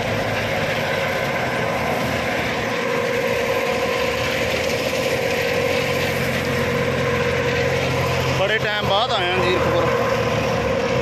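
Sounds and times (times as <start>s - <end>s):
heavy machinery droning hum: 0.0s - 11.0s.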